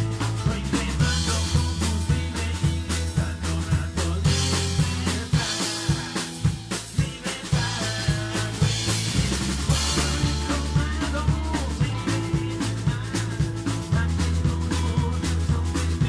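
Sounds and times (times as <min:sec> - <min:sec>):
drum kit beat: 0:00.0 - 0:16.0
electric bass: 0:00.0 - 0:16.0
electric guitar: 0:00.0 - 0:16.0
keyboard: 0:00.0 - 0:16.0.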